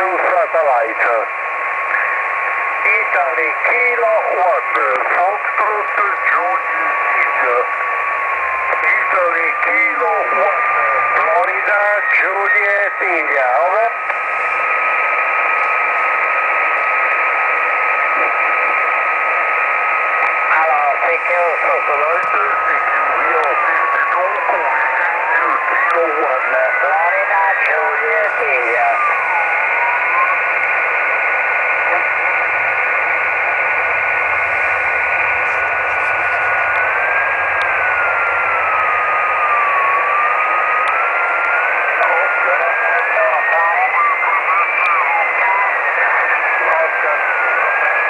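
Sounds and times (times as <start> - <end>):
radio receiver hiss: 0.0 - 48.0.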